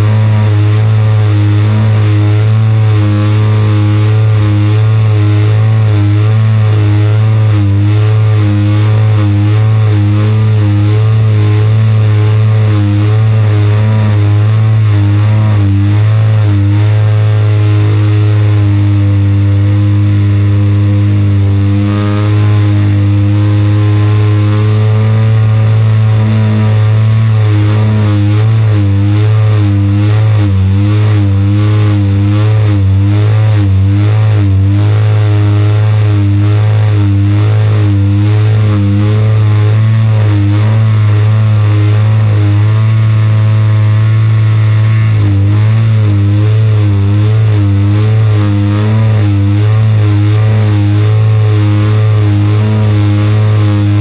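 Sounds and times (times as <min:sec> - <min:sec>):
model aircraft engine droning: 0:00.0 - 0:54.0.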